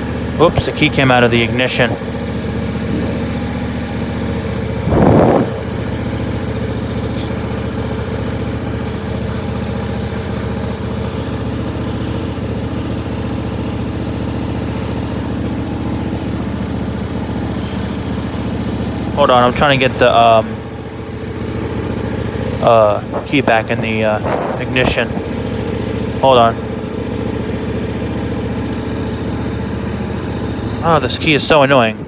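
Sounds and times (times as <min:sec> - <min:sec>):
lawn tractor engine running: 0:00.0 - 0:32.0.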